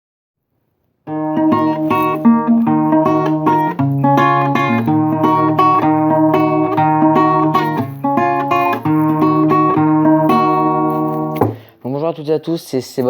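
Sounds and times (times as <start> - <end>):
acoustic guitar plucking: 1.0 - 11.7.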